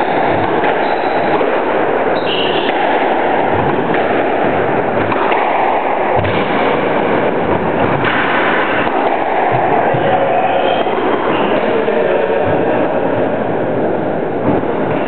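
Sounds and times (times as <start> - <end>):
dull low thuds of squash play: 0.0 - 15.0
loud steady rushing noise: 0.0 - 15.0.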